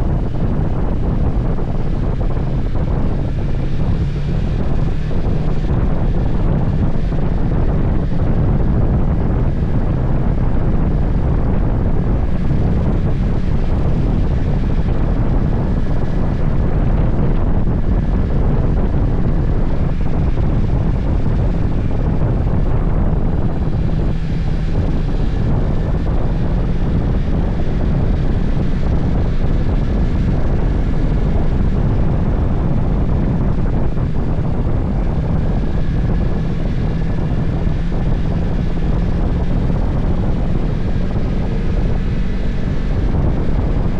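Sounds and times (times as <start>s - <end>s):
motorcycle engine running: 0.0s - 43.9s
wind rush on microphone: 0.0s - 43.9s.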